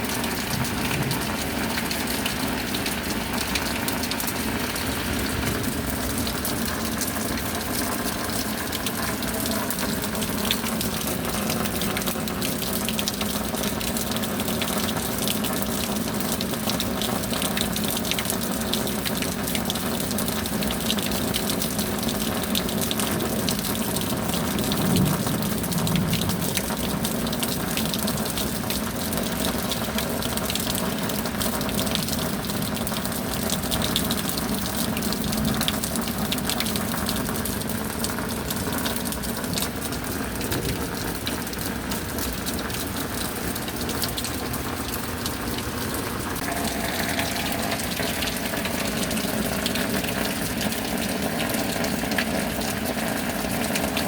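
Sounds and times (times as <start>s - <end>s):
heavy rain with gushing water: 0.0s - 54.0s.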